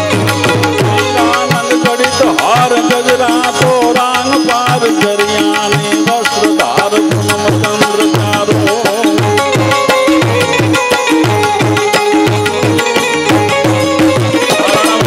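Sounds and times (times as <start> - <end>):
bending melody line: 0.0 - 15.0
harmonium tones: 0.0 - 15.0
tabla playing quick rhythm: 0.0 - 15.0.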